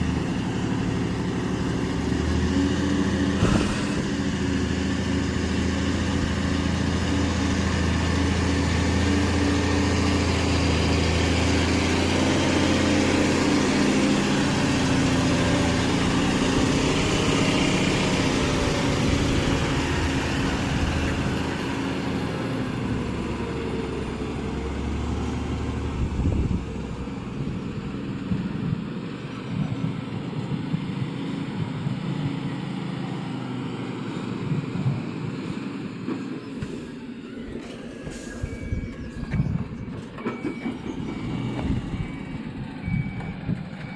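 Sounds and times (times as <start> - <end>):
diesel truck engine droning: 0.0 - 43.9.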